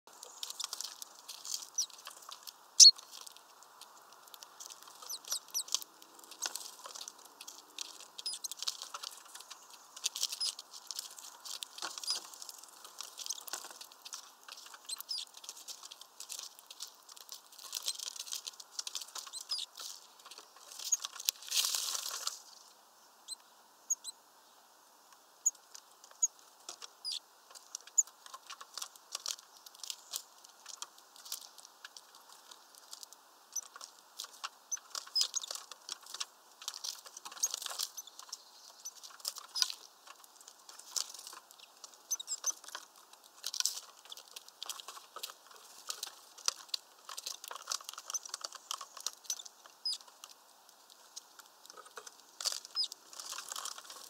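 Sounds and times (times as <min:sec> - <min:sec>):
birds scratching and clicking on feeder: 0:00.1 - 0:22.7, 0:25.4 - 0:54.0.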